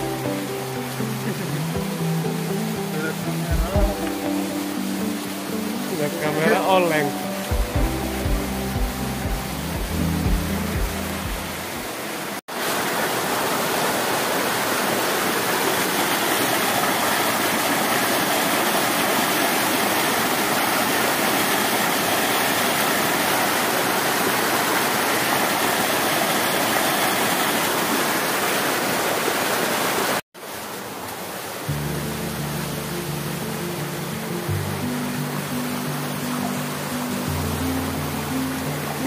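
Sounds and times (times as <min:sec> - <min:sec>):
river rushing over boulders: 0:00.0 - 0:39.0.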